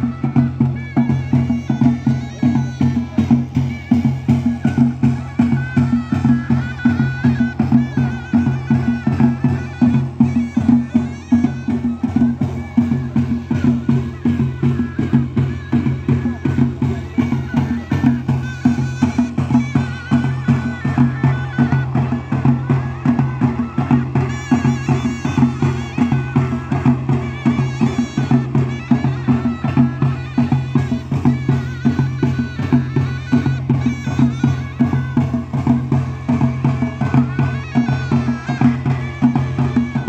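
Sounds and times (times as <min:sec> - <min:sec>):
drums beating fast rhythm: 0:00.0 - 0:40.0
wavering melody line: 0:00.0 - 0:40.0.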